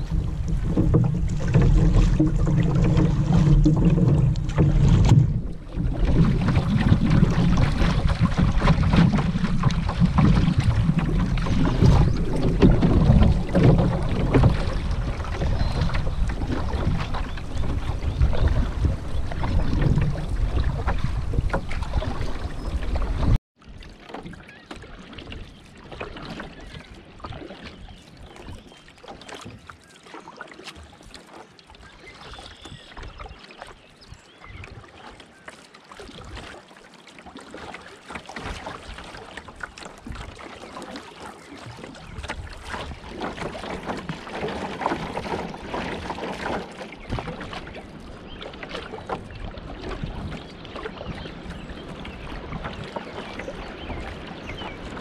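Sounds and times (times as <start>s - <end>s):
river water splashing around canoe: 0.0s - 55.0s.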